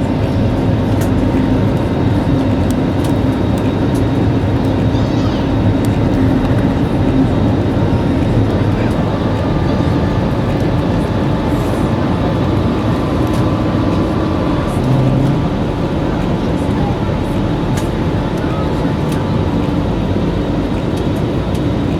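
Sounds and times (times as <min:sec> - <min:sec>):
jet engines: 0:00.0 - 0:21.9
rushing air in cabin: 0:00.0 - 0:21.9.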